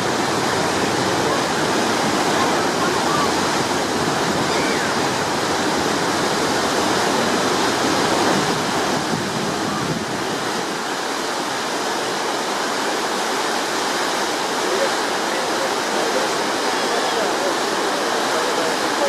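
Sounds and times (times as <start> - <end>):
water rushing: 0.0 - 19.0
wind: 0.0 - 19.0.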